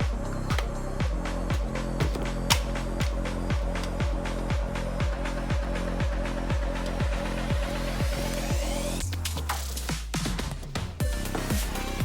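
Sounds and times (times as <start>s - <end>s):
steady kick drum: 0.0s - 9.0s, 9.7s - 12.0s
electronic background music: 0.0s - 12.0s.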